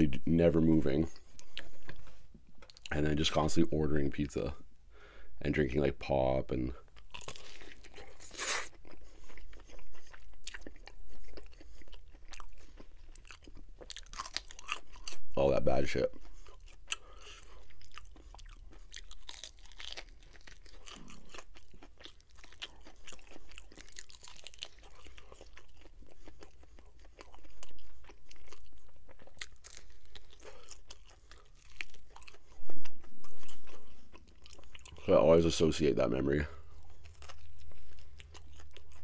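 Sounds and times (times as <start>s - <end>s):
chewing and crunching chicken: 0.7s - 3.0s, 6.7s - 39.0s.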